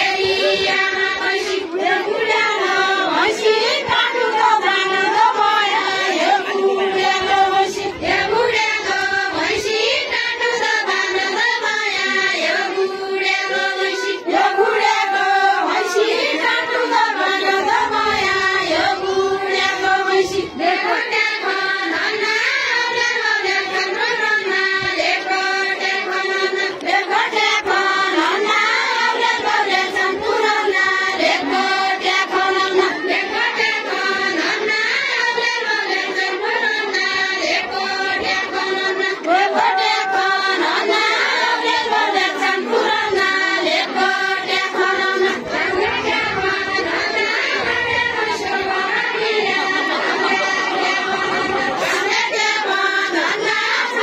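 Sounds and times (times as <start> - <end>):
women singing together: 0.0 - 54.0.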